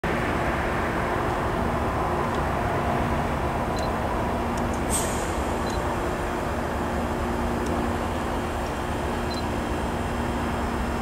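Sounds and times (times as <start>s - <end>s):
low rumble of distant engines: 0.0s - 11.0s.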